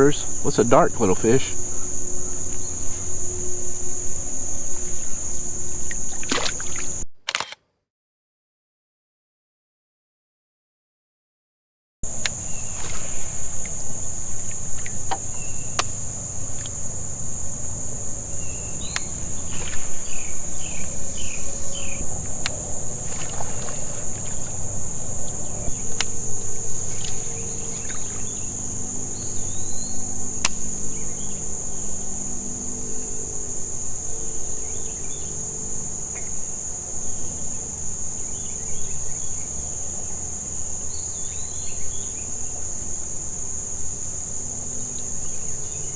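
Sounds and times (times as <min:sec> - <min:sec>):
insects chorus: 0:00.0 - 0:07.0, 0:12.0 - 0:45.9.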